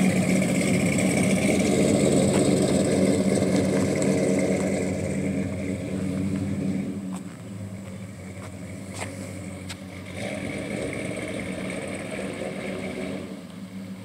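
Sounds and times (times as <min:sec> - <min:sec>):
car engine pulling away: 0:00.0 - 0:14.0.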